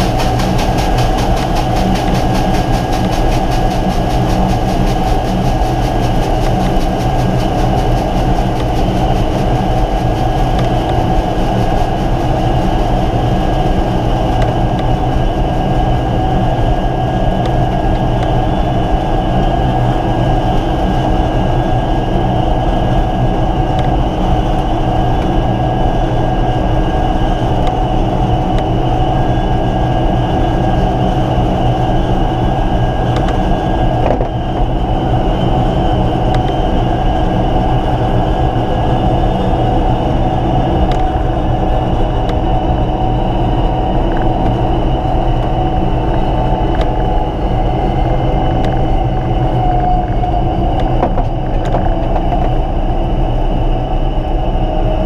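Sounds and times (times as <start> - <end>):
engine high whine: 0.0 - 55.0
turboprop engine low drone: 0.0 - 55.0.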